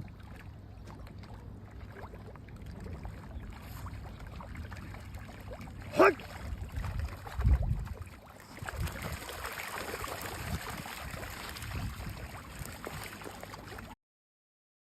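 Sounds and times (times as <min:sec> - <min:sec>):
water sloshing and gurgling: 0:00.0 - 0:14.0.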